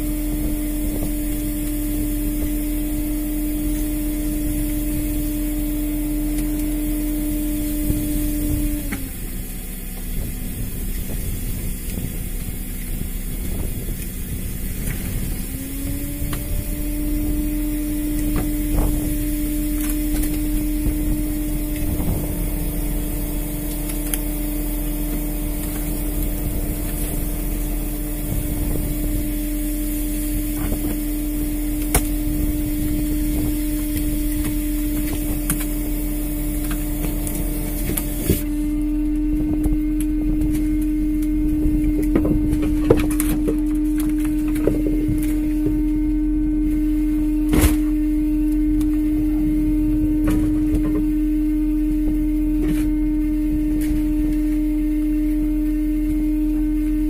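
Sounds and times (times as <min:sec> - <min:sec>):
engine rumble: 0:00.0 - 0:57.0
motor whine: 0:00.0 - 0:57.0.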